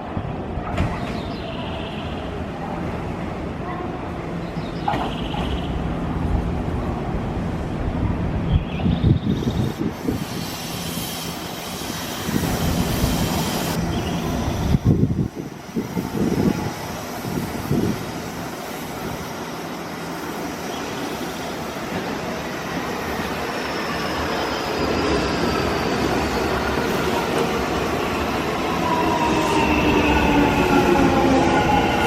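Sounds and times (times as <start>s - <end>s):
electric train arriving: 0.0s - 32.0s.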